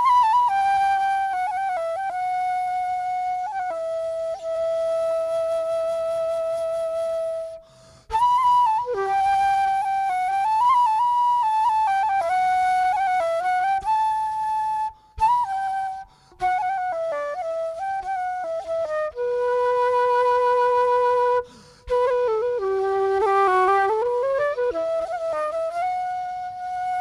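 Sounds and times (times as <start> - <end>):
slow flute melody: 0.0 - 27.0.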